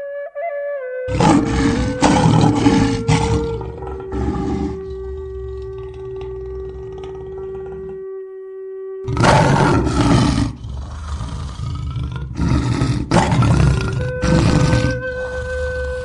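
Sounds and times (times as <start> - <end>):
large animal rough calls: 1.1 - 8.0, 9.1 - 16.0.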